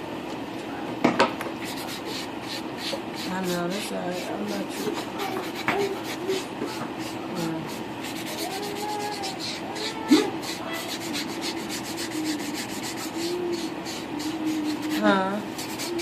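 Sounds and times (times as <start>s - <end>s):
nails being filed: 1.6s - 16.0s.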